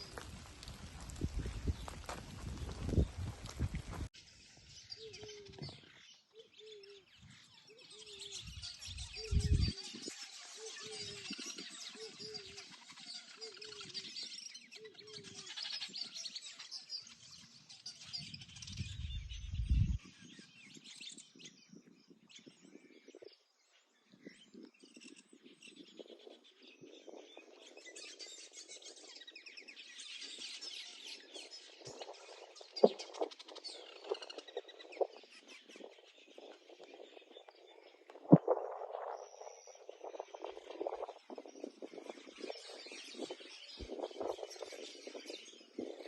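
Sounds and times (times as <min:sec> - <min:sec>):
birds chirping: 0:00.0 - 0:23.4, 0:24.1 - 0:46.0.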